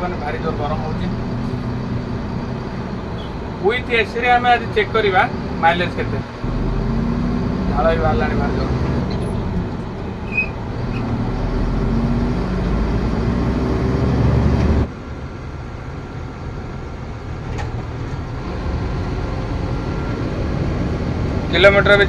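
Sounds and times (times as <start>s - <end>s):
diesel truck engine rumble: 0.0s - 22.0s.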